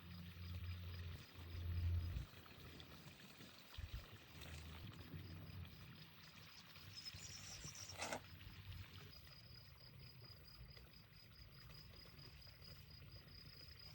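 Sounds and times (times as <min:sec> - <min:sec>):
faint outdoor ambience: 0:00.0 - 0:13.9.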